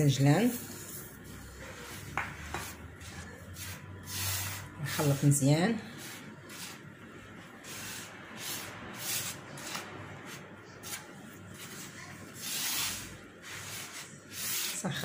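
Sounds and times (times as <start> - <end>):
hand rubbing dry mix in clay dish: 0.4 - 6.9, 7.6 - 15.0.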